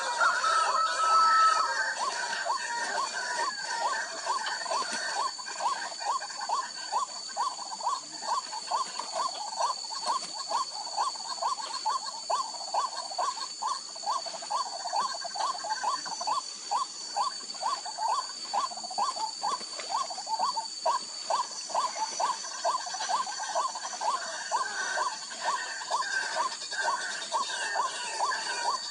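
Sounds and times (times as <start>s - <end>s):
waterhen calling: 0.0s - 28.9s.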